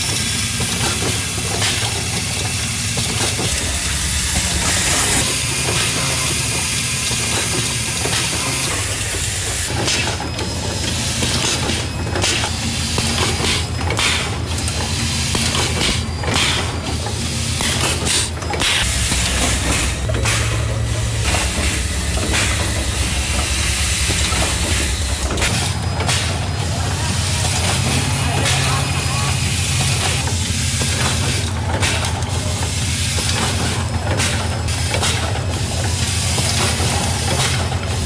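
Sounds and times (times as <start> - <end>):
pneumatic hisses and clacks: 0.0 - 38.0.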